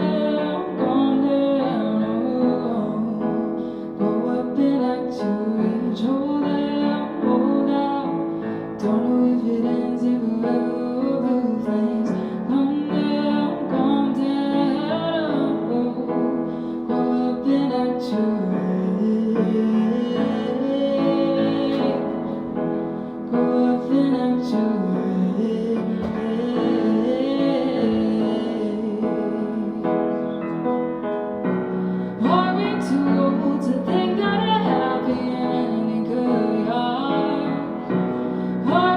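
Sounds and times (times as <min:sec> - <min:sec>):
woman singing: 0:00.0 - 0:30.4, 0:32.1 - 0:38.9
piano accompaniment: 0:00.0 - 0:38.9.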